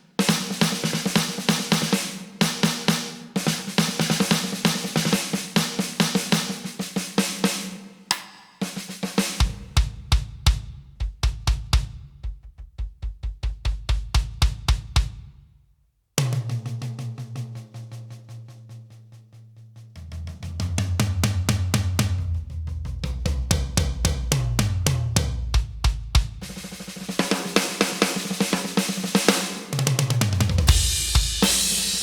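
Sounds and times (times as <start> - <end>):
electronic drum kit groove: 0.0 - 15.5, 20.0 - 32.0.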